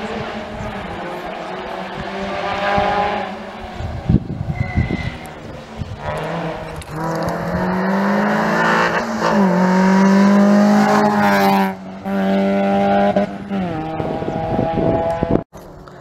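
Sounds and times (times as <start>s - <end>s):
rally car engine at high revs: 0.0s - 15.4s.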